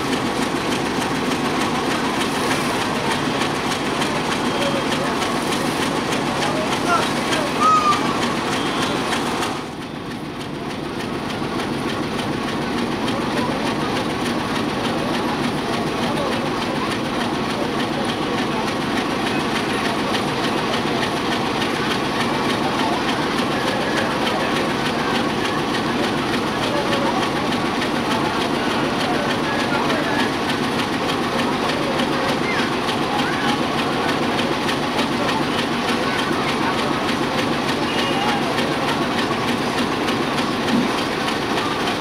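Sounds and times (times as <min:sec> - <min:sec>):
train wheels clattering on rails: 0:00.0 - 0:42.0.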